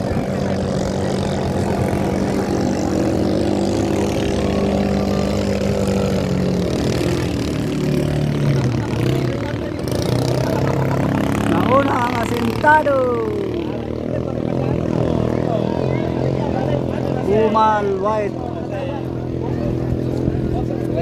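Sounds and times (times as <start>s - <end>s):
racing boat engines droning: 0.0s - 21.0s.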